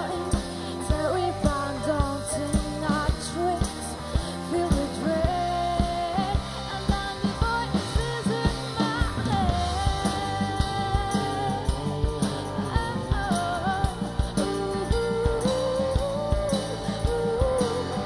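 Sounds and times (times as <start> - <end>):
bass guitar: 0.0 - 18.0
drum-kit beat: 0.0 - 18.0
electric guitar: 0.0 - 18.0.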